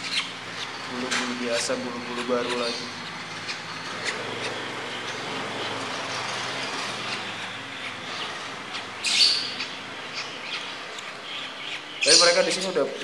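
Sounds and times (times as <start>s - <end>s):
bird chirp: 0.0s - 13.0s.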